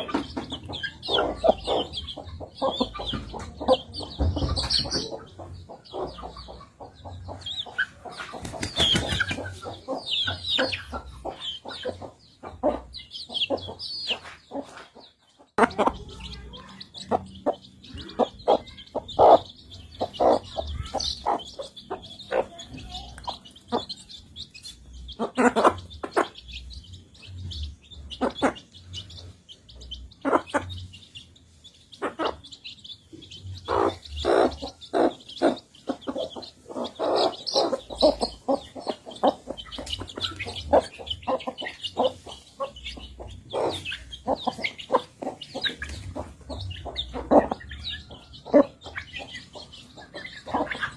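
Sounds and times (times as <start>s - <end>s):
chickens pecking and clucking: 0.0s - 50.9s
high chirping: 0.0s - 50.9s.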